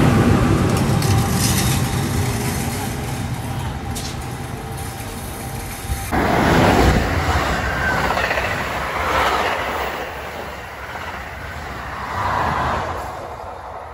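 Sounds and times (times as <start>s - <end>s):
train coaches passing at speed: 0.0s - 13.9s.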